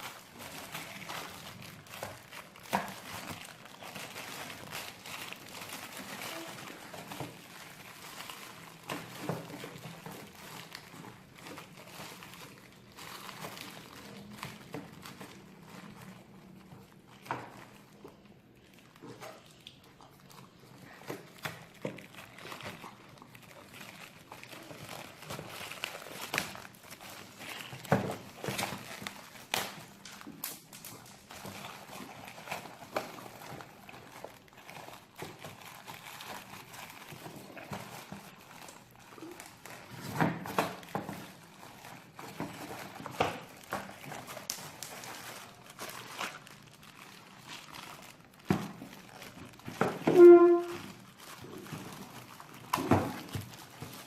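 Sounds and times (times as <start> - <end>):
packaging crinkling and tearing: 0.0 - 54.0.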